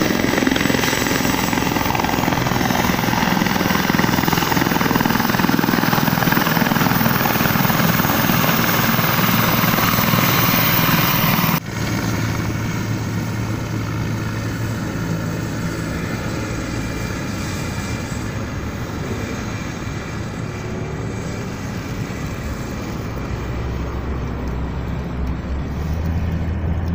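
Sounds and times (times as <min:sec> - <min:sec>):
helicopter rotor and engine: 0:00.0 - 0:26.9
road vehicle humming: 0:00.0 - 0:26.9.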